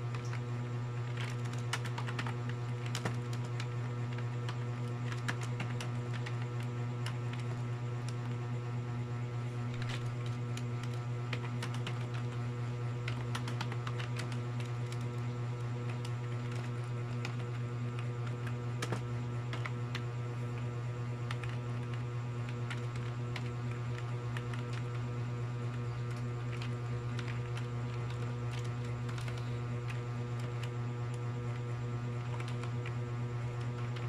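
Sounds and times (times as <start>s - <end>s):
keyboard keys clicking: 0.0s - 8.4s, 9.6s - 34.0s
low electrical hum: 0.0s - 34.0s.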